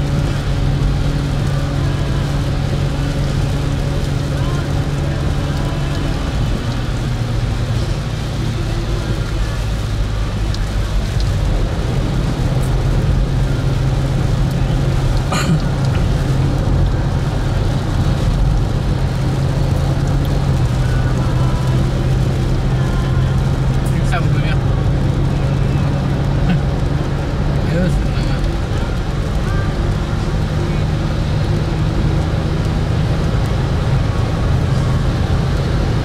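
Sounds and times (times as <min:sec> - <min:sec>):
car engine and tyre drone: 0:00.0 - 0:36.0
rain hissing on car: 0:00.0 - 0:36.0.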